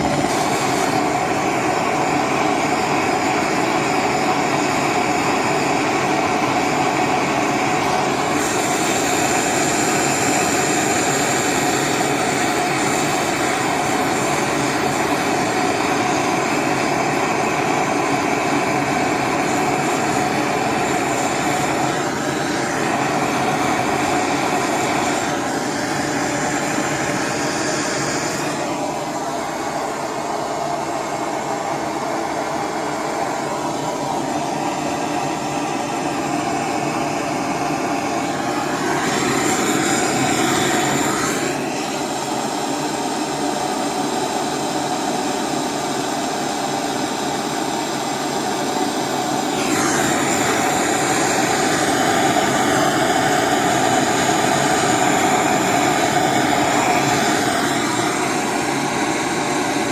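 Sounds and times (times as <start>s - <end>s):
gas torch flame rushing: 0.0s - 59.9s.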